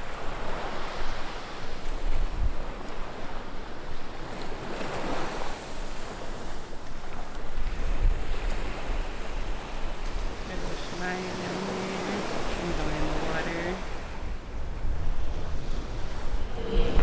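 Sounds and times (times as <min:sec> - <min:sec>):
ocean surf washing onto beach: 0:00.0 - 0:17.0
wind gusting on microphone: 0:00.0 - 0:17.0.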